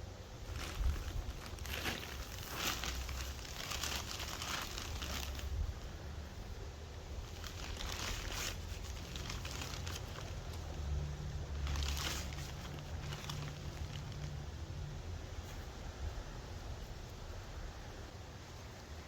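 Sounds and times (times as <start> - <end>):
distant traffic hum: 0.0 - 19.0
rustling and crinkling by hands: 0.0 - 19.0.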